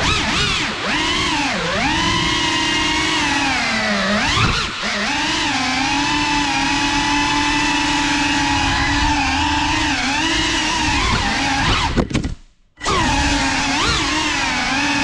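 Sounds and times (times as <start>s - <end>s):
drone motors whining: 0.0s - 12.2s, 12.8s - 15.0s.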